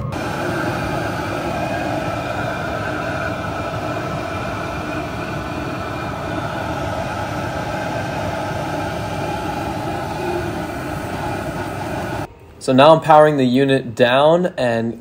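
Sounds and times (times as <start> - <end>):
air heater fan and burner whirring: 0.0 - 13.4.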